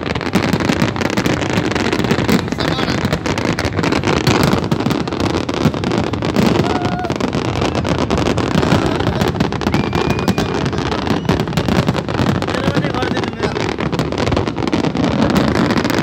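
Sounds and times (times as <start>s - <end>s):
fireworks crackles and bangs: 0.0s - 16.0s
crowd voices: 0.1s - 14.2s.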